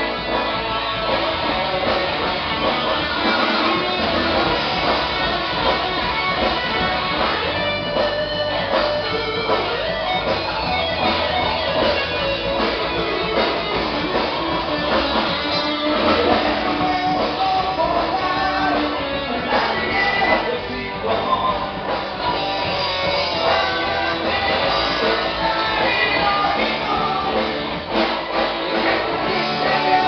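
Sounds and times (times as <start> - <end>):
guitars strumming: 0.0 - 30.0
rock band playing live: 0.0 - 30.0.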